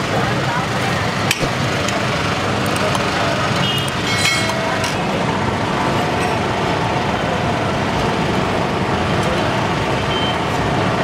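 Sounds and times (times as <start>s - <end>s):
road traffic din: 0.0s - 11.0s.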